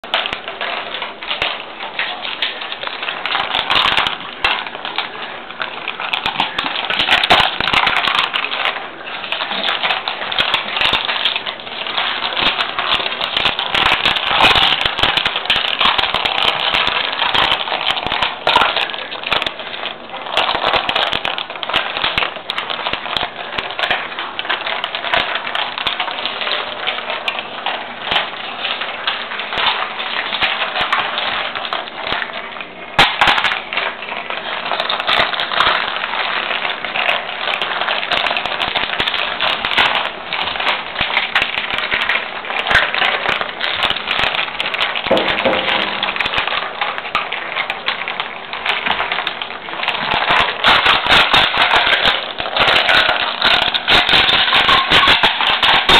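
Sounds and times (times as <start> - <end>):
dogs crunching ice cubes: 0.0 - 55.9
loud clatter: 0.0 - 55.9.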